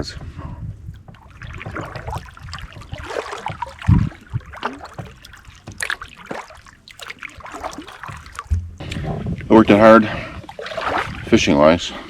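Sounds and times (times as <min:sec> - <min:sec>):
paddle splashing and dripping: 0:00.7 - 0:11.9.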